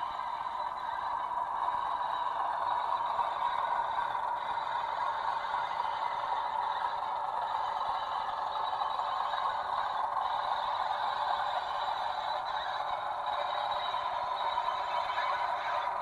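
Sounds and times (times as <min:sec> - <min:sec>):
thin diesel engine drone from speaker: 0:00.0 - 0:16.0.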